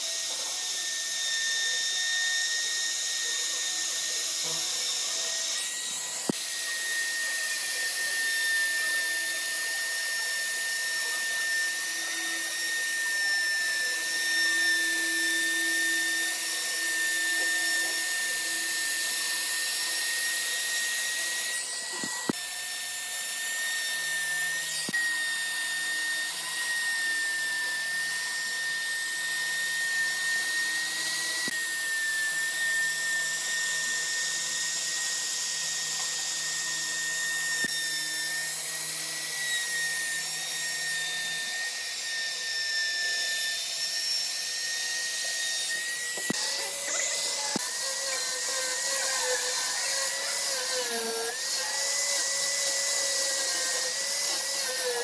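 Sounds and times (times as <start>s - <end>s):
trim router whining: 0.0s - 55.0s.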